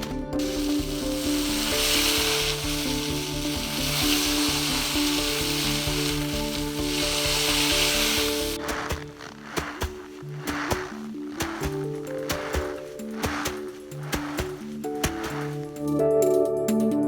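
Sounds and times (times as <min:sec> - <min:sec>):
sizzling hiss: 0:00.0 - 0:15.8
background music: 0:00.0 - 0:17.0.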